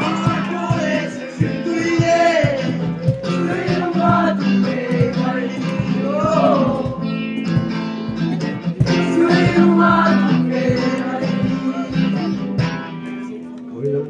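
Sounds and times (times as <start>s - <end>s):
person singing: 0.0s - 13.4s
acoustic guitar strumming: 0.0s - 13.8s.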